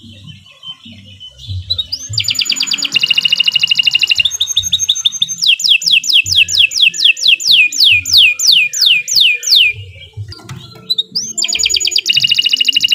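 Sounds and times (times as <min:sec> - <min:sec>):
canary singing: 0:00.0 - 0:12.9.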